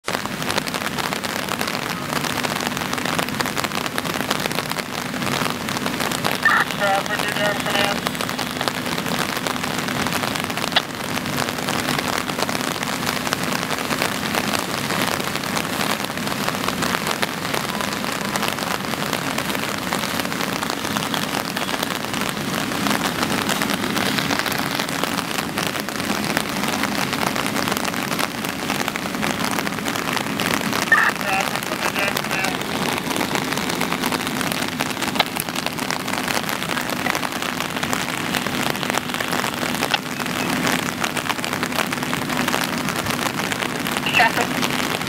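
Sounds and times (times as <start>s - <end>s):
rain falling steadily: 0.0s - 45.0s.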